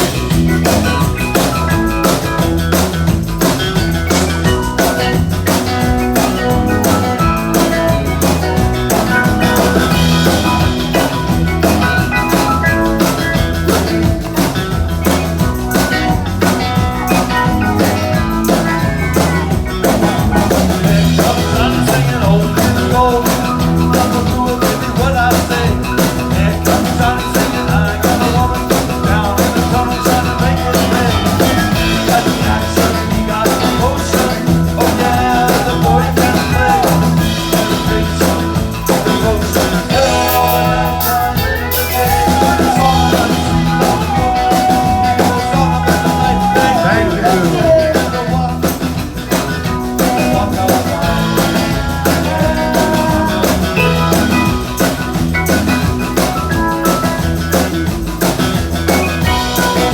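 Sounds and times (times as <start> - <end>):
drum kit beat: 0.0 - 59.9
live rock and roll band: 0.0 - 59.9.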